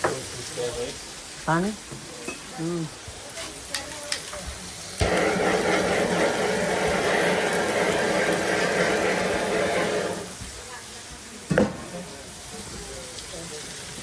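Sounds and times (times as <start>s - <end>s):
water running from a tap: 0.0s - 14.0s.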